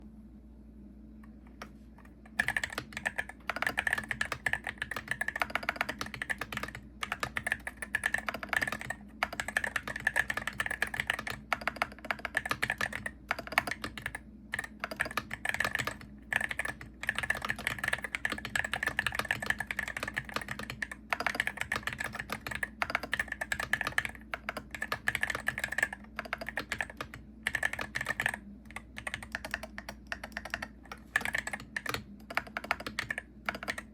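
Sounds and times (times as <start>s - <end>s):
faint low hum: 0.0s - 33.9s
keyboard keystroke clacks: 1.6s - 33.9s.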